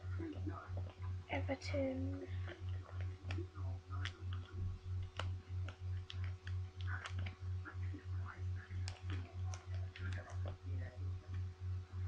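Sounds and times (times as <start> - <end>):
low pulsing hum: 0.0 - 12.0.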